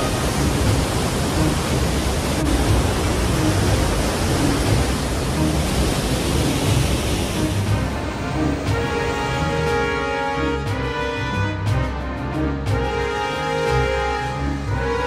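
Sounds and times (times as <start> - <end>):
river rapids roaring: 0.0 - 15.0.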